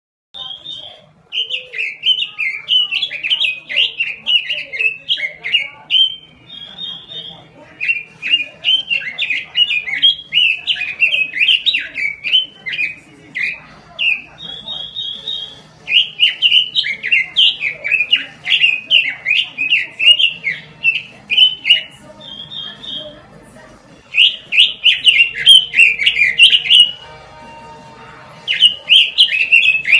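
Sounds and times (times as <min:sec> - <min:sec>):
songbird singing whistled notes: 0:00.4 - 0:23.2, 0:24.1 - 0:27.3, 0:28.4 - 0:29.9.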